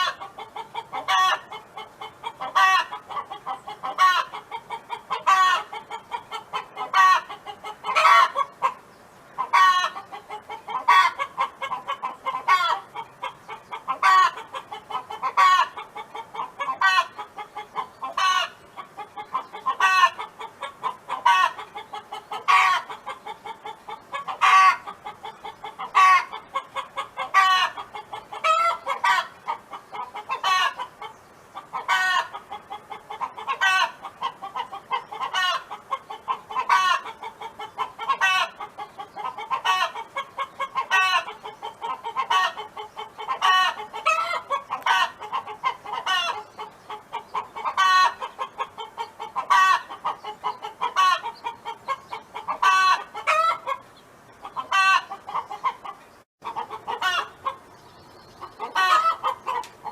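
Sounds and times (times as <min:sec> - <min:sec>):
hen clucking: 0:00.0 - 0:59.9.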